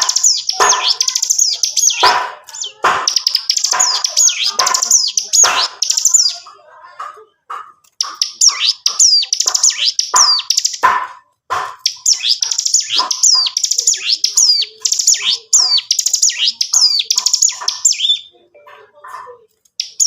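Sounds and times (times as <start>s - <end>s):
bird singing high chirps: 0.0s - 6.5s, 8.0s - 10.8s, 11.7s - 18.4s, 19.8s - 20.0s.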